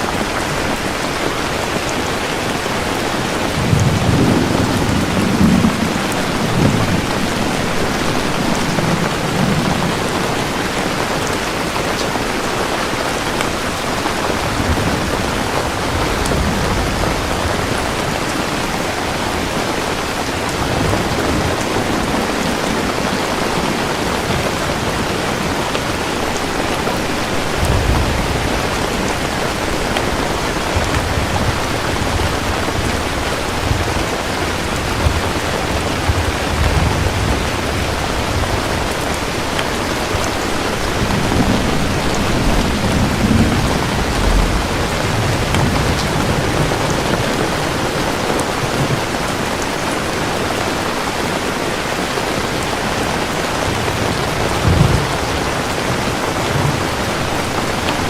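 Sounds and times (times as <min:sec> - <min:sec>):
low rolling thunder: 0:00.0 - 0:50.2, 0:52.1 - 0:58.0
heavy rain falling: 0:00.0 - 0:58.0.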